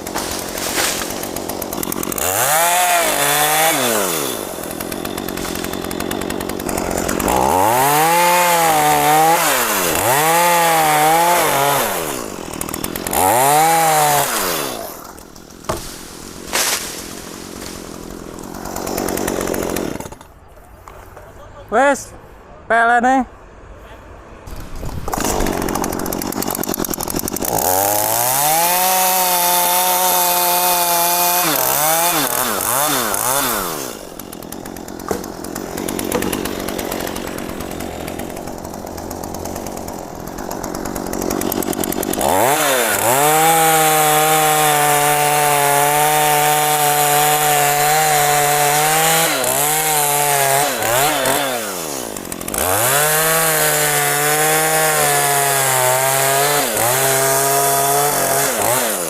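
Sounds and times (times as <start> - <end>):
chainsaw cutting wood: 0.0 - 20.4, 24.5 - 59.0.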